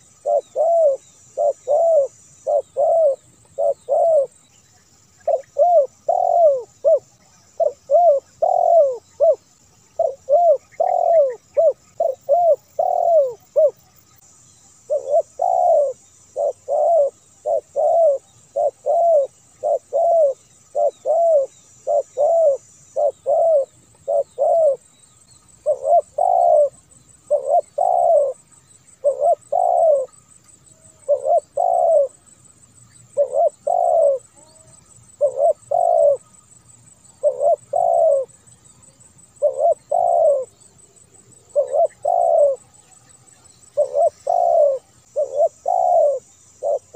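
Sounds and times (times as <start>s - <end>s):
dove cooing: 0.0s - 4.3s, 5.2s - 14.0s, 14.9s - 24.8s, 25.6s - 32.2s, 33.1s - 36.4s, 37.1s - 46.9s.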